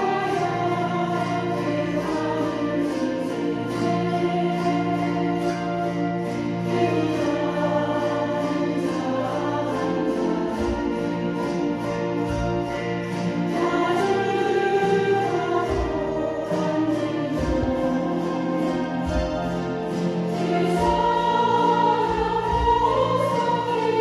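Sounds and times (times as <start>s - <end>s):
chromaharps strumming slow song: 0.0s - 24.0s.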